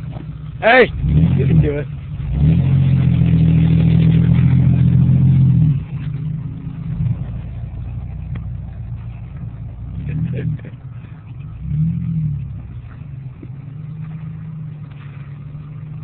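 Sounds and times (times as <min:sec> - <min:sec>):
truck engine revving high: 0:00.6 - 0:16.0.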